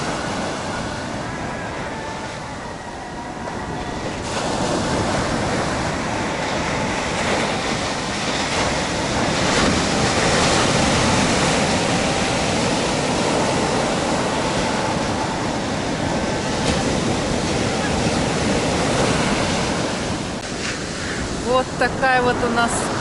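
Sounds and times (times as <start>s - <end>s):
waves breaking on sandy beach: 0.0s - 23.0s.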